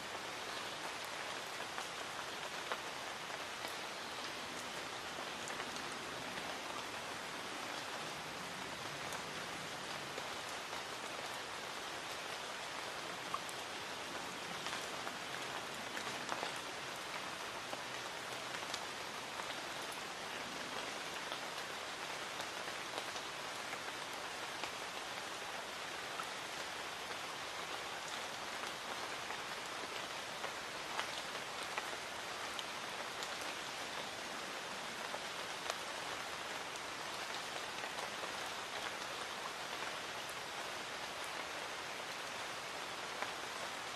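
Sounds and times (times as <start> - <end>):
light rain hissing: 0.0 - 43.9
raindrops ticking on surfaces: 0.0 - 43.9.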